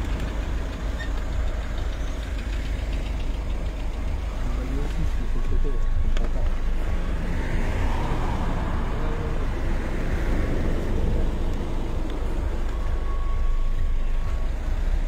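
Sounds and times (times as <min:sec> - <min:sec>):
car engine and road rumble: 0:00.0 - 0:15.0
tyre hiss and traffic: 0:00.0 - 0:15.0.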